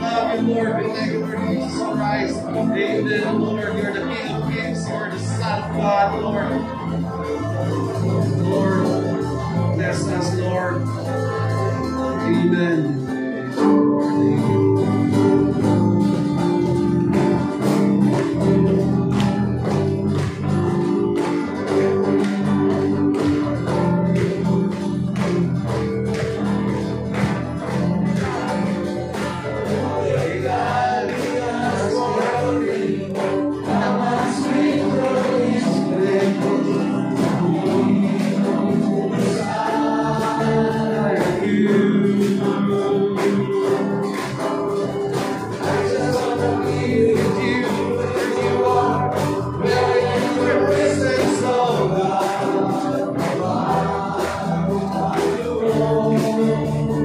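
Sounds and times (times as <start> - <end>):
voices singing: 0.0 - 57.0
worship band playing: 0.0 - 57.0.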